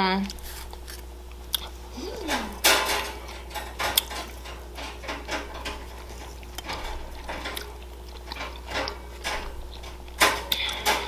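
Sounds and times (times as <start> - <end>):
wet chewing: 0.0 - 4.8, 5.8 - 10.8.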